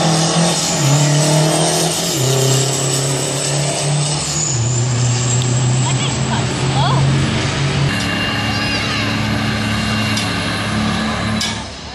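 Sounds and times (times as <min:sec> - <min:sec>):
diesel truck accelerating and shifting: 0:00.0 - 0:11.9.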